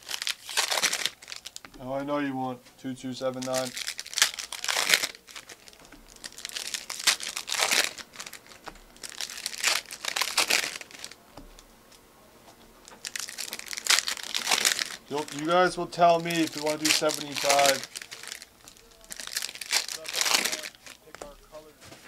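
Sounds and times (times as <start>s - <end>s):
foil wrappers crinkling and tearing: 0.0s - 1.8s, 3.2s - 11.7s, 12.5s - 22.0s.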